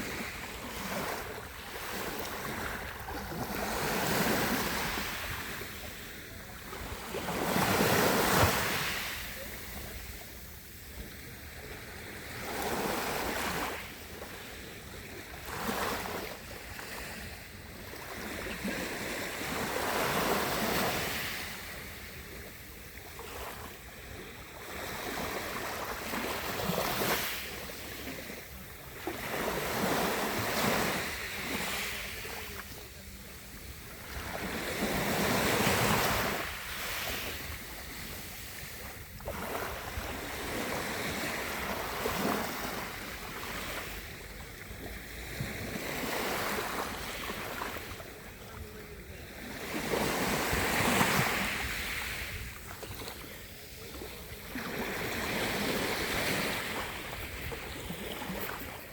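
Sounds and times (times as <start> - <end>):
waves washing onto shore: 0.0 - 58.9.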